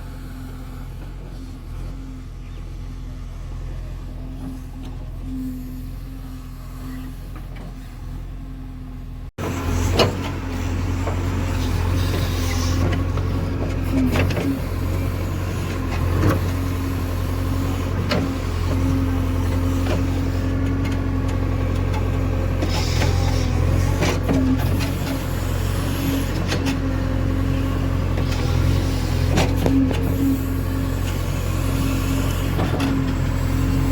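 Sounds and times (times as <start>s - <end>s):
heavy machinery diesel engine: 0.0s - 33.9s.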